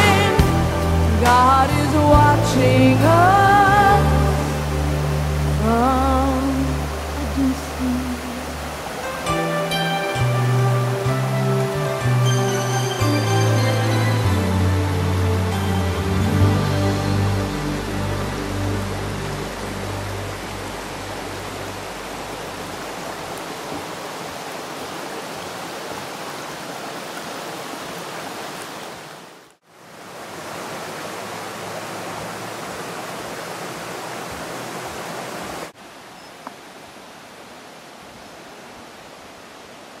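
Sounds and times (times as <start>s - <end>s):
rushing water: 0.0s - 40.0s.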